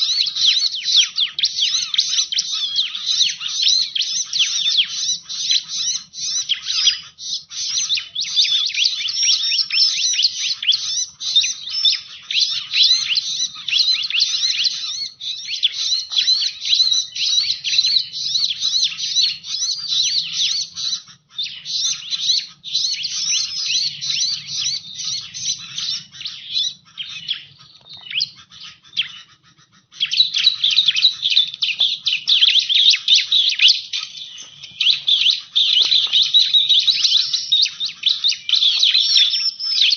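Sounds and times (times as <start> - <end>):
bird high chirps and trills: 0.0 - 39.9.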